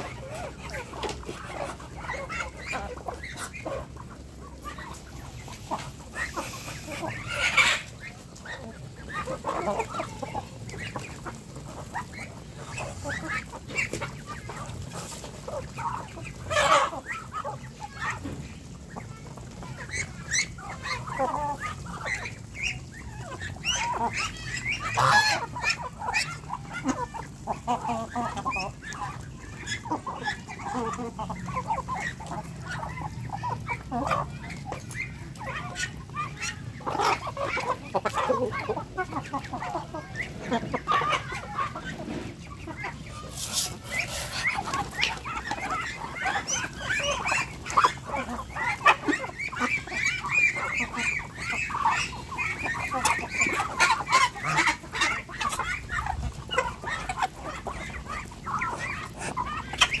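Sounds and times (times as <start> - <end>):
beaks pecking ground: 0.0 - 60.0
ducks and chickens calling: 0.0 - 60.0.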